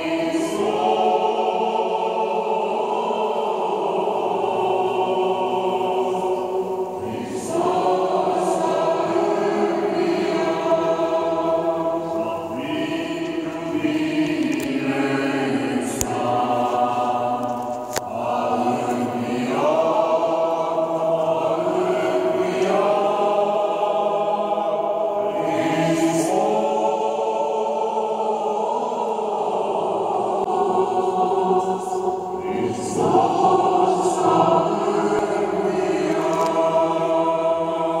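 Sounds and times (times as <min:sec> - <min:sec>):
church choir chanting: 0:00.0 - 0:38.0.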